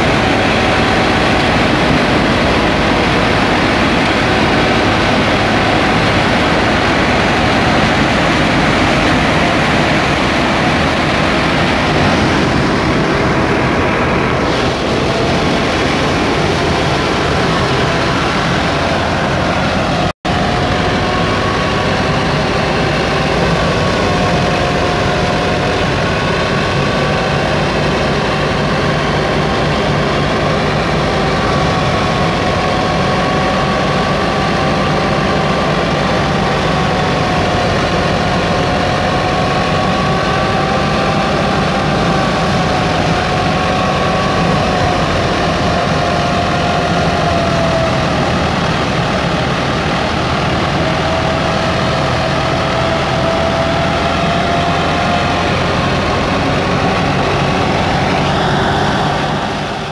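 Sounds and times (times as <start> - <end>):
steady wavering whine: 0.0 - 59.9
tractor diesel engine: 0.0 - 59.9
wheat thresher running: 0.0 - 59.9.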